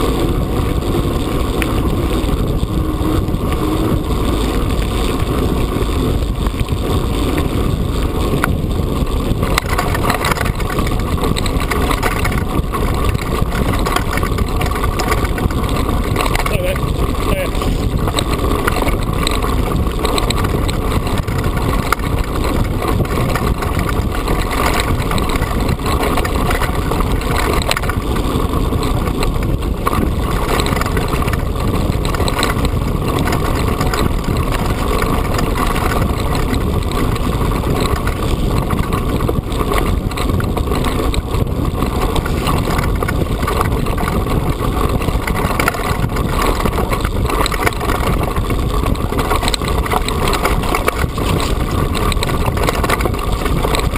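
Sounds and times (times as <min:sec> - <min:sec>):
bike rattling and knocking: 0:00.0 - 0:53.9
bike tyres rumbling on gravel: 0:00.0 - 0:53.9.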